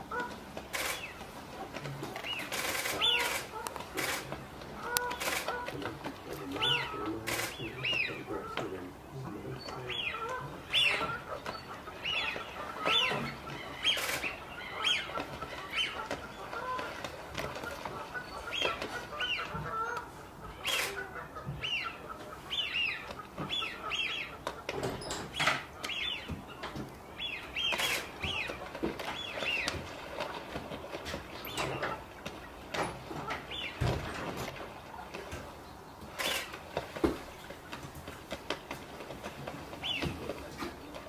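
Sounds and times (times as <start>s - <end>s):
ducks splashing and flapping: 0.0s - 41.0s.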